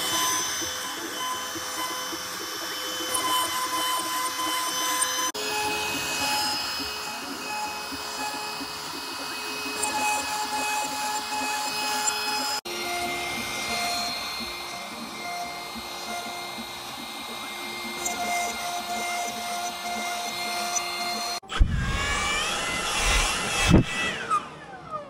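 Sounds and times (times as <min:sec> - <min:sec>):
router spindle whining: 0:00.0 - 0:25.0.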